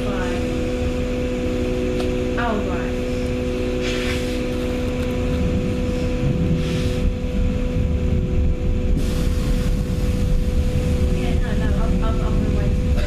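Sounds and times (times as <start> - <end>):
vehicle interior rumble: 0.0 - 13.0.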